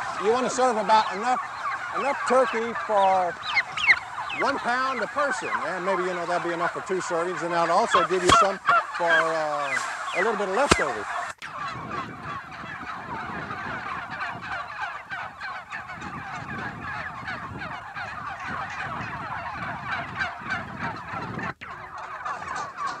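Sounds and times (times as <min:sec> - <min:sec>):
turkeys calling: 0:00.0 - 0:23.0.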